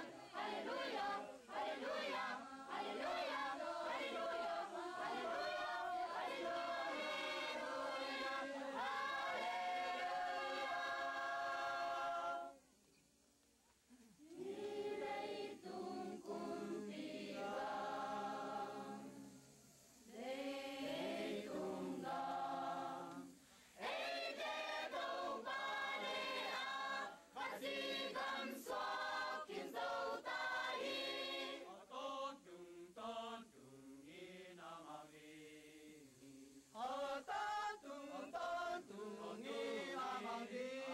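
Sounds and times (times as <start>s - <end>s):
mixed choir singing: 0.0s - 12.6s, 14.2s - 40.9s.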